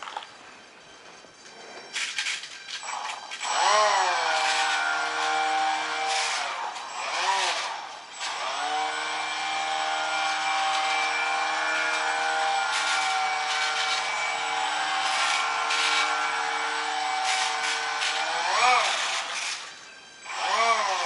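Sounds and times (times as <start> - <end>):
small electric motor whining: 1.4 - 21.0.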